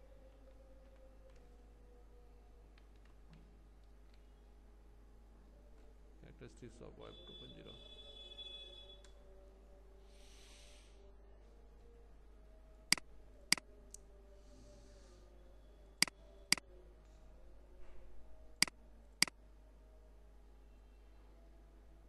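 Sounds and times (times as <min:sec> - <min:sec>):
faint room hum: 0:00.0 - 0:08.1, 0:08.7 - 0:22.0.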